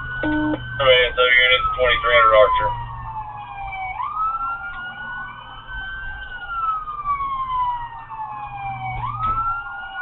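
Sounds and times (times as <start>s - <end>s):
low vehicle rumble: 0.0s - 10.0s
police siren wailing: 0.0s - 10.0s.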